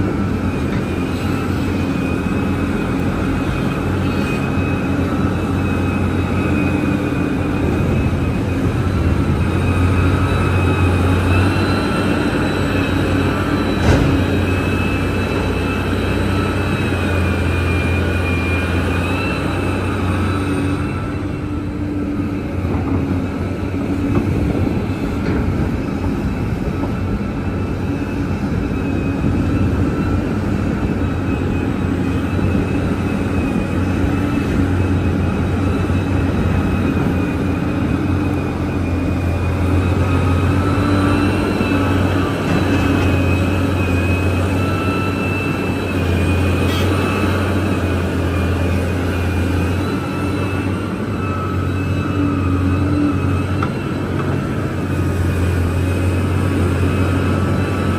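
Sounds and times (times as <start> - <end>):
excavator engine drone: 0.0 - 57.9.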